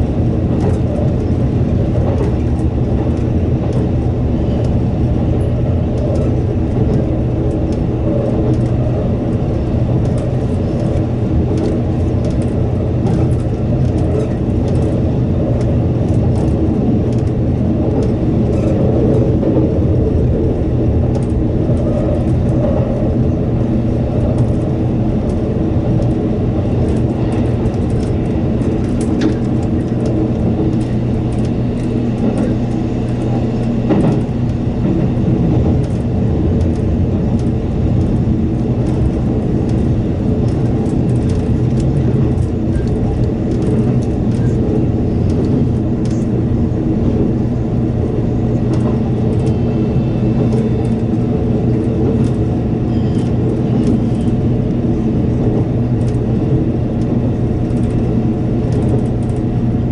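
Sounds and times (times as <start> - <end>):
train rumbling through tunnel: 0.0 - 59.9.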